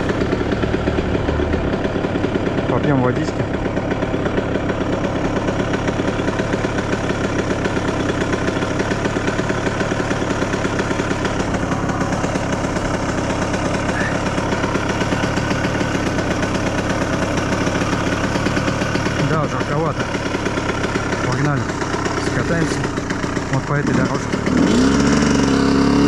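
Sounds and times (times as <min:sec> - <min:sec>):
two-stroke engine idling: 0:00.0 - 0:26.0.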